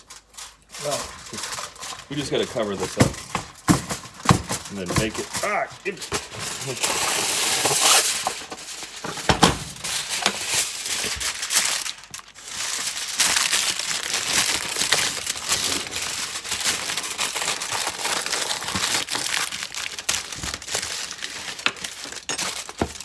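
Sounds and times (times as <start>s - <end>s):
aluminium foil crinkling: 0.0s - 23.0s.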